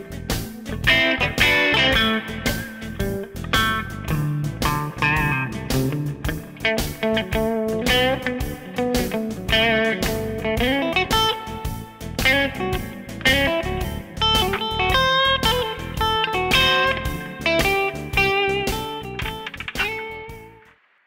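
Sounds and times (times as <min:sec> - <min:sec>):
blues electric guitar: 0:00.0 - 0:20.7.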